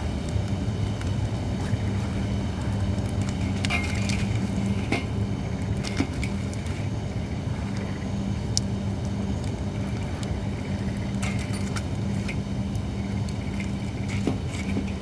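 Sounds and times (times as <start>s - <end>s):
campfire crackling and popping: 0.0s - 15.0s
low hum: 0.0s - 15.0s.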